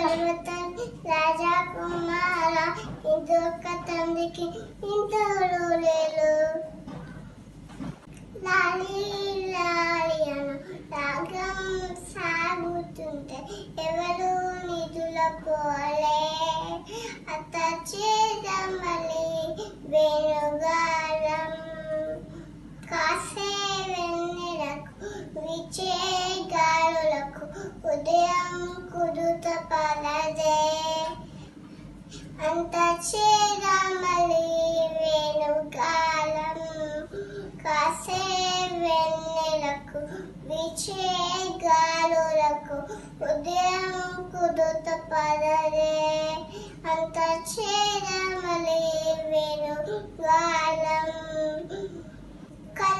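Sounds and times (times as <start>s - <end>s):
girl singing a lullaby: 0.0s - 6.9s, 8.2s - 31.4s, 32.1s - 52.9s.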